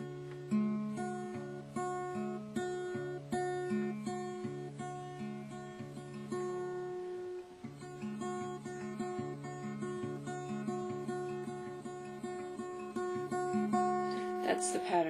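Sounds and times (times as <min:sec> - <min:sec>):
finger-picked acoustic guitar: 0:00.0 - 0:15.0.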